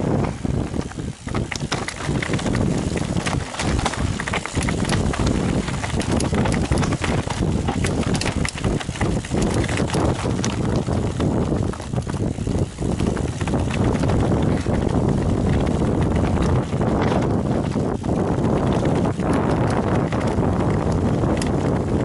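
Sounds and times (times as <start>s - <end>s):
bike rattling over stones: 0.0s - 22.0s
wind rumble on microphone: 0.0s - 22.0s.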